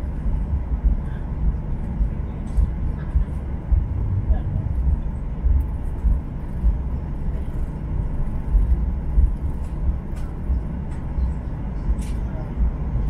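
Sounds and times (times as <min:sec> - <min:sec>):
airframe rumbling while rolling: 0:00.0 - 0:13.0
jet engines at low thrust: 0:00.0 - 0:13.0.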